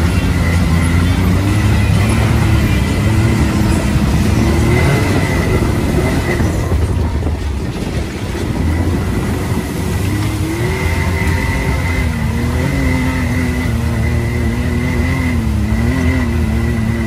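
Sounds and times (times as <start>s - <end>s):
vehicle engine running: 0.0s - 17.0s
water splashing against vehicle: 0.0s - 17.0s.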